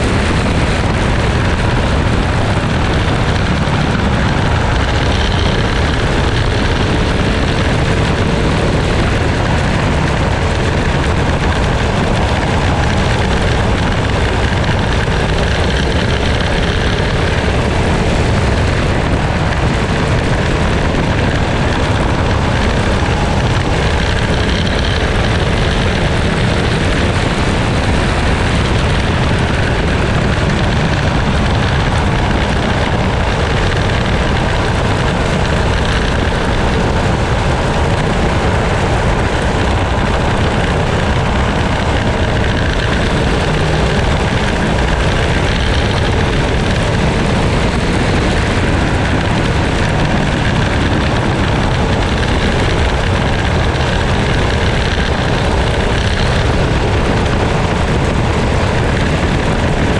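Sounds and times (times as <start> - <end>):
racing kart engine running hard: 0.0 - 59.9
wind rushing: 0.0 - 59.9.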